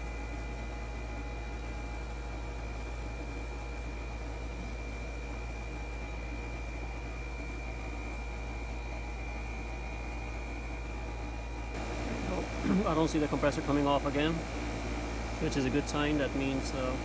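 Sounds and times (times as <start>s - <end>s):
air conditioner compressor hum: 0.0s - 17.0s
faint high whine: 0.0s - 17.0s
fan noise: 0.0s - 17.0s.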